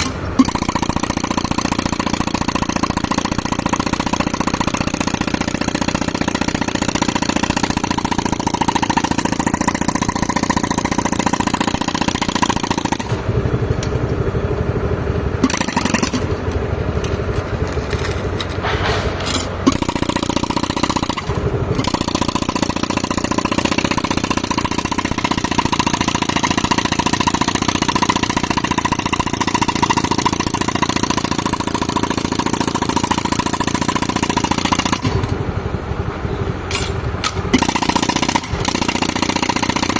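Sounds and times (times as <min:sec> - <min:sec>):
pneumatic rock breaker hammering: 0:00.0 - 0:14.4, 0:15.4 - 0:35.5, 0:36.6 - 0:39.9
tractor engine running: 0:00.0 - 0:39.9.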